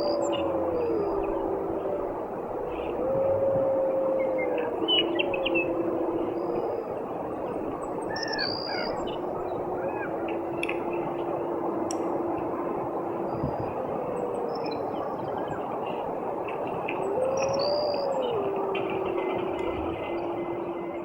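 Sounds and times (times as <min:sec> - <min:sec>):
long howling calls: 0:00.0 - 0:21.0.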